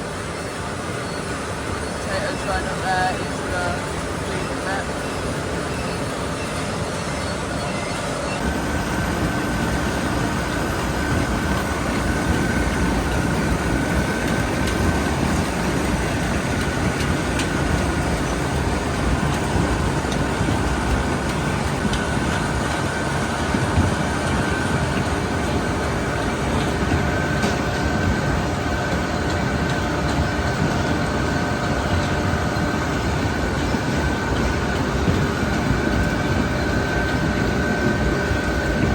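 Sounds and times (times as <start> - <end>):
continuous rattle: 0.0 - 38.9
engine and machinery rumble: 0.0 - 38.9
steady high whine: 0.0 - 38.9.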